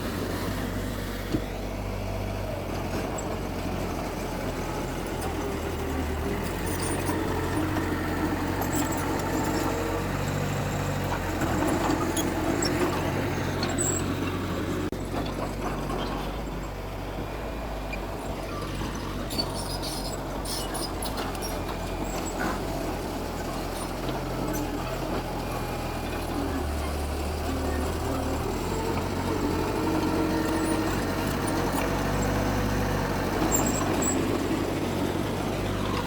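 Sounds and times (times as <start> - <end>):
heavy diesel engines running: 0.0 - 36.0.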